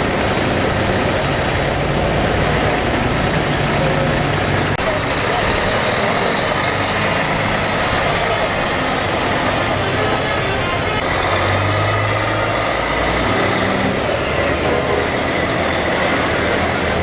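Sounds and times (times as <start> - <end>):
truck diesel engines passing: 0.0 - 17.0.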